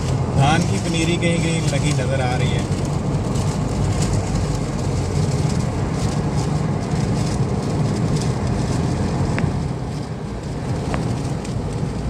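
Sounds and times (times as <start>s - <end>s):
car engine drone: 0.0s - 12.0s
road and tyre noise: 0.0s - 12.0s.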